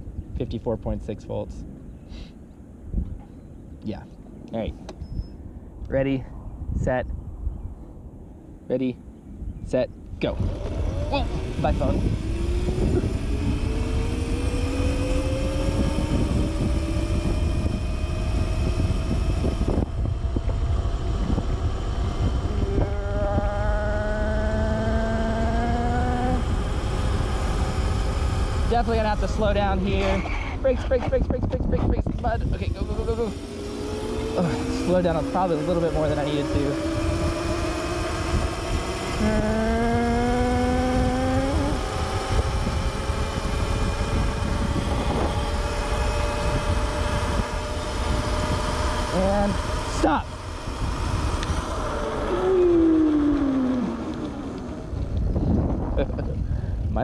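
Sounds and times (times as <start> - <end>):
wind rumble on microphone: 0.0 - 57.0
electric motor whining: 10.1 - 57.0.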